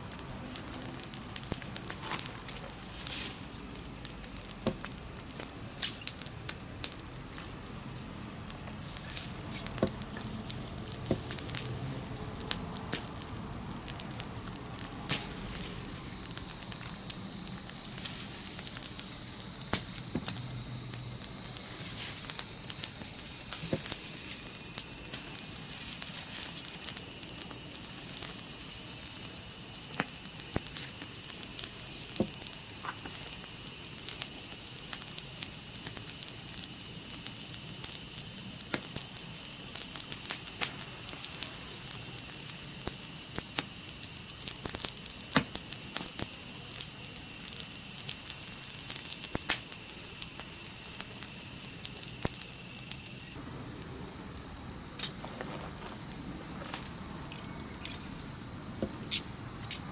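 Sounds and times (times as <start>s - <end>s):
insects trilling: 0.0s - 59.9s.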